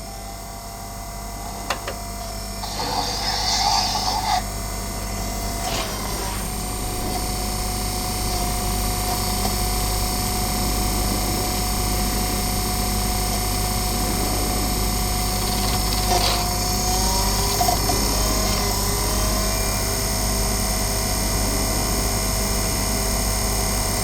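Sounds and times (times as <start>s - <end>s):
mechanical drone: 0.0s - 24.0s.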